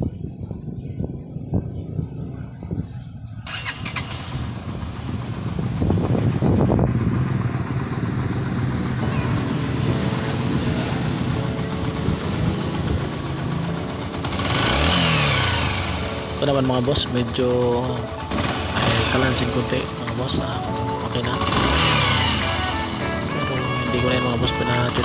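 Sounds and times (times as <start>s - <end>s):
motorcycle engine starting and idling: 3.1s - 25.0s
motorcycle engine revving: 3.3s - 25.0s.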